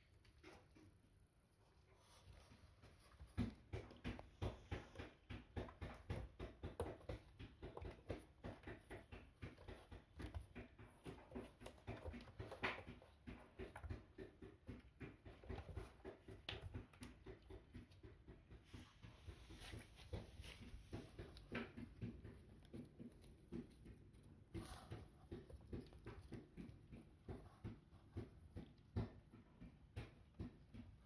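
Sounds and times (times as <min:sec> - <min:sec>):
kittens' paws thumping and scrabbling: 0:00.0 - 0:31.0.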